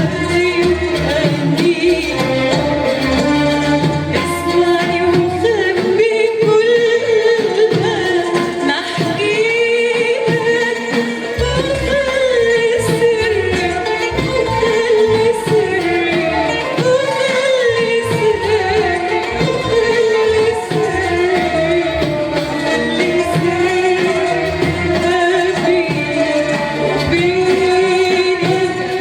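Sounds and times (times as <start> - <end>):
music ensemble playing: 0.0 - 29.0
woman singing ornamented notes: 0.0 - 29.0.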